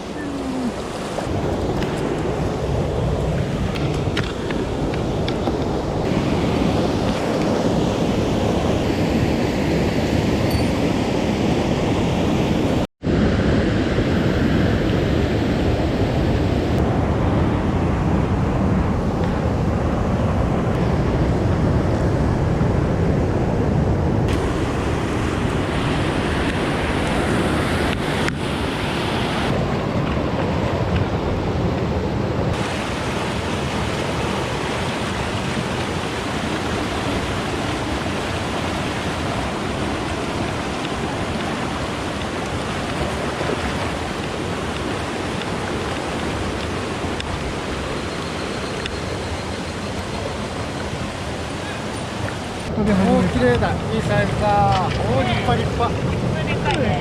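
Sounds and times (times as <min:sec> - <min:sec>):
mountain stream rushing: 0:00.0 - 0:23.1, 0:23.8 - 0:57.0.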